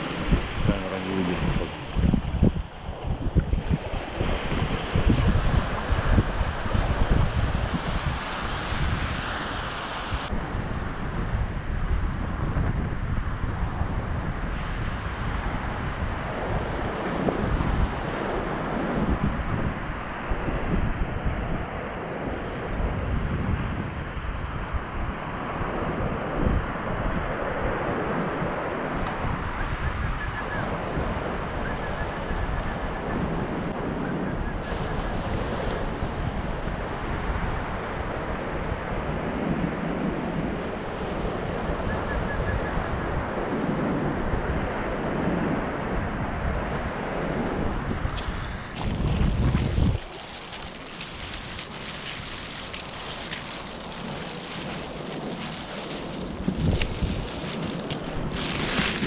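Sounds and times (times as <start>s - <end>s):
surf washing on beach: 0.0s - 59.0s
wind buffeting microphone: 0.0s - 59.0s.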